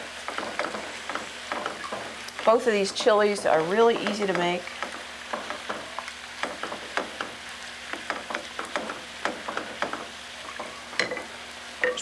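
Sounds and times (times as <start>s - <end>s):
spoon scraping and knocking pot: 0.3s - 12.0s.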